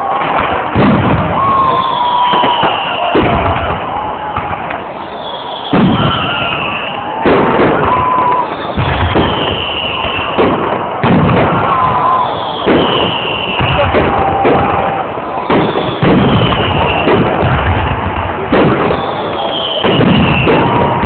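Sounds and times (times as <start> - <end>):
fireworks booming with echo: 0.0 - 21.0.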